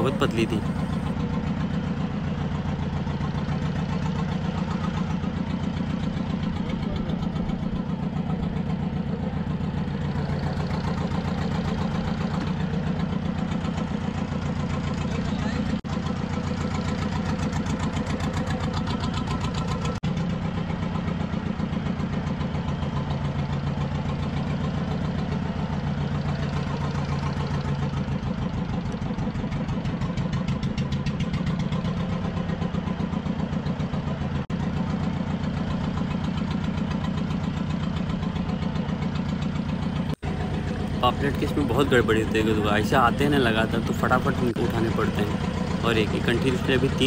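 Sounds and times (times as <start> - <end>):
boat engine idling: 0.0 - 47.0.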